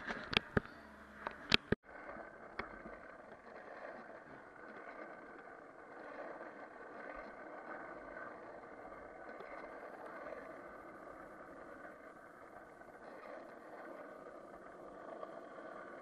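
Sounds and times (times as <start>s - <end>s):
skateboard wheels rolling on asphalt: 0.0s - 16.0s.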